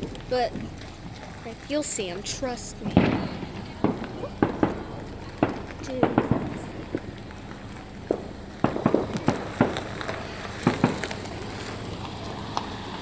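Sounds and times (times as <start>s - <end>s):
distant fireworks popping: 0.0s - 13.0s.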